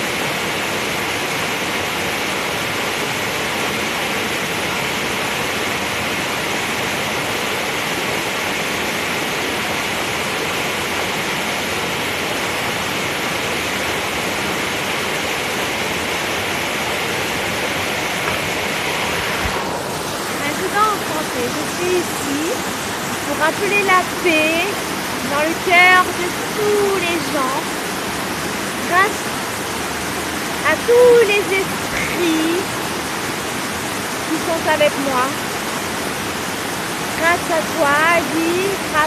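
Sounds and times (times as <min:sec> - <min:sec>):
running water rushing: 0:00.0 - 0:39.0.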